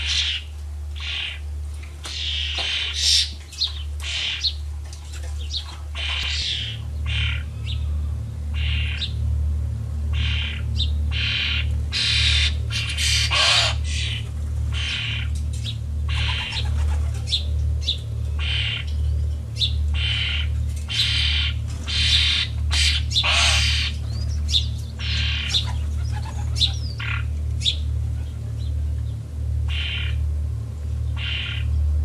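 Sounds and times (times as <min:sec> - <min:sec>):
small birds chirping: 0:00.0 - 0:09.2, 0:10.1 - 0:30.2, 0:31.0 - 0:31.9
steady low hum: 0:00.0 - 0:32.0.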